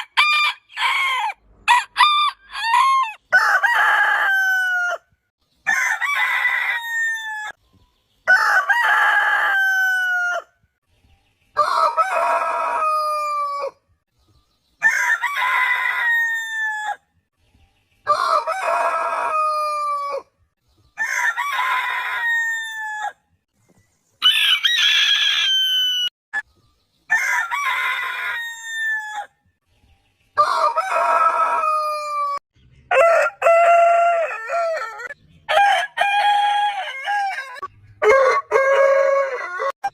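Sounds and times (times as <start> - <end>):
roosters crowing: 0.0 - 7.6, 8.2 - 10.5, 11.6 - 13.8, 14.8 - 17.0, 18.1 - 20.3, 21.0 - 23.2, 24.2 - 26.1, 27.1 - 29.3, 30.4 - 39.9.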